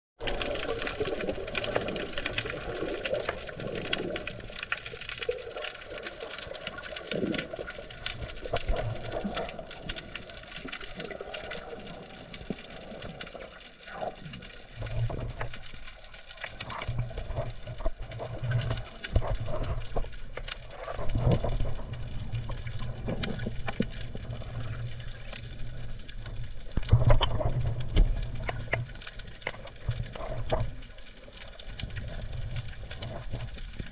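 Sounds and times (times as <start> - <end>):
muffled underwater water movement: 0.2 - 33.9
small crackling clicks: 0.2 - 33.9.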